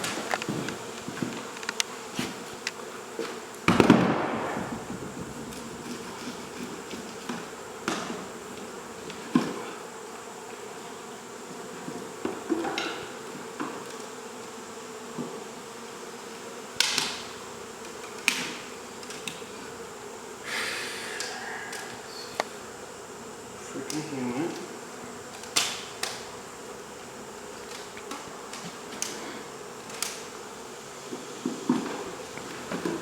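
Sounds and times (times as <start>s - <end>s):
bees buzzing: 0.0s - 33.0s.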